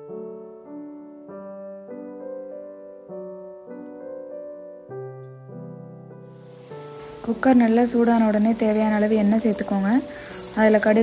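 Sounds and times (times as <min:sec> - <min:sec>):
gentle piano tune: 0:00.0 - 0:11.0.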